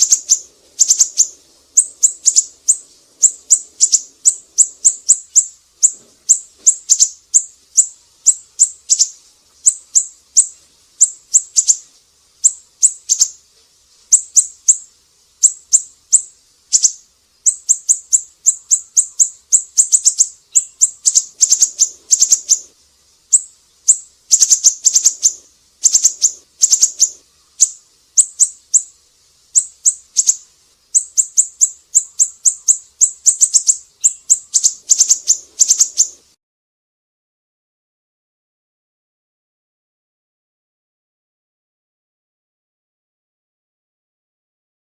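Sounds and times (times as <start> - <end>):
songbird chirping: 0.0 - 36.3.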